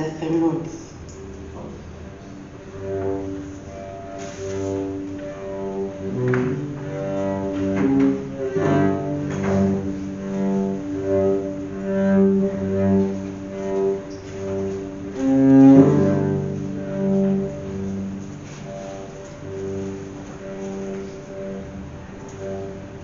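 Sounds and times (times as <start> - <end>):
low bowed-string notes: 0.0 - 23.0.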